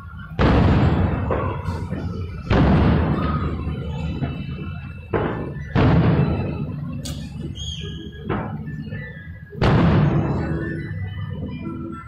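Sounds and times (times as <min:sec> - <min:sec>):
fireworks booming and echoing: 0:00.0 - 0:11.6.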